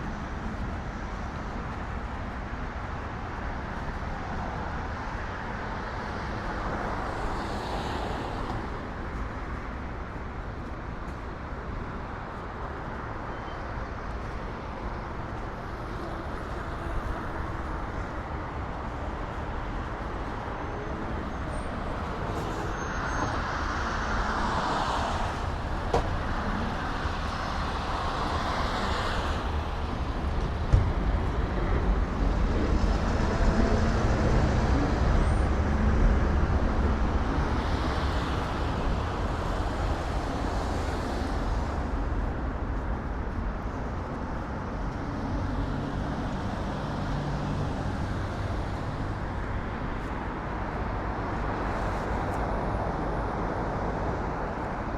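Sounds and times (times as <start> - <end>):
traffic rumble: 0.0 - 54.9
vehicles passing: 0.0 - 54.9.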